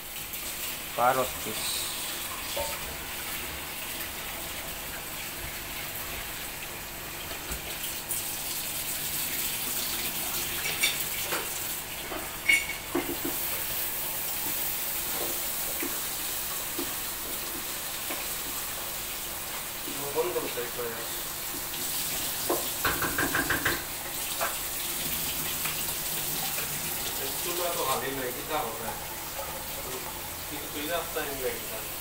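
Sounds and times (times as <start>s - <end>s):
tap water running: 0.0s - 32.0s.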